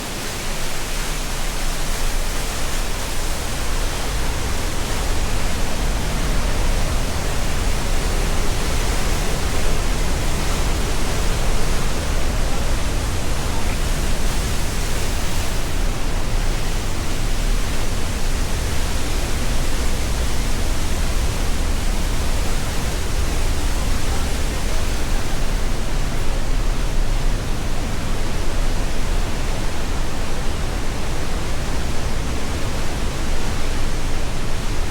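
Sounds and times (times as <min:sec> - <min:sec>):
river rushing through gorge: 0:00.0 - 0:34.9.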